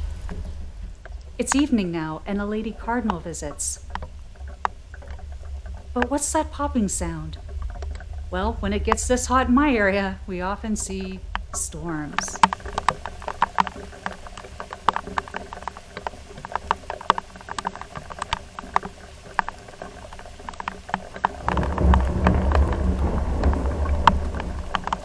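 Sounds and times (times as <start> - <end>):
thunder rumbling: 0.0 - 16.5, 20.4 - 25.0
raindrops popping: 0.0 - 25.0.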